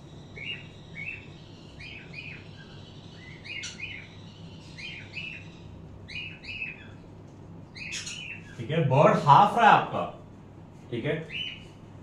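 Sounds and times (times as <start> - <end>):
parrots chirping: 0.0 - 9.6, 11.2 - 11.8.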